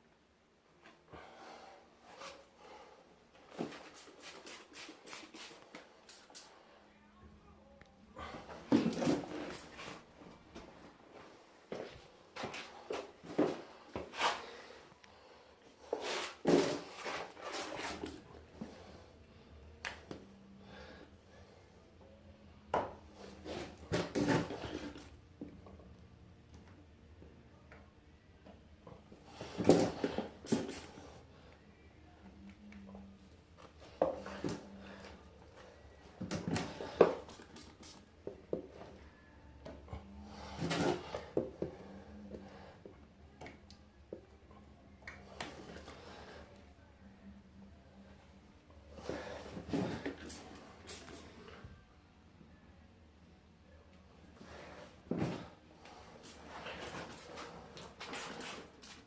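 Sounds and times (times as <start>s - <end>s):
faint low hum: 5.7s - 58.1s.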